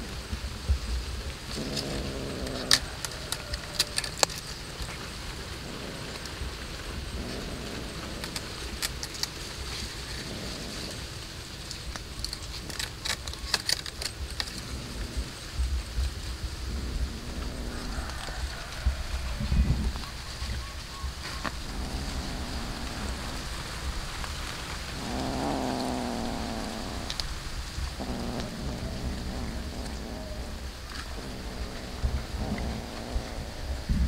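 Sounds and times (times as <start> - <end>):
cat chewing and crunching: 0.0 - 34.0
low rumble: 0.0 - 34.0
steady hiss: 0.0 - 34.0.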